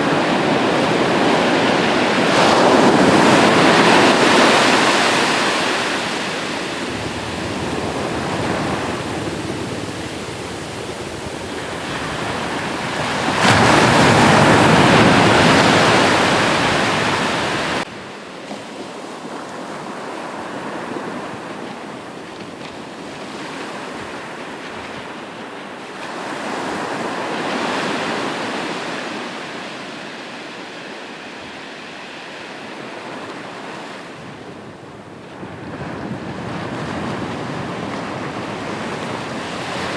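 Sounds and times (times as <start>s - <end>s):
sea waves breaking on shore: 0.0s - 34.5s, 35.5s - 39.9s.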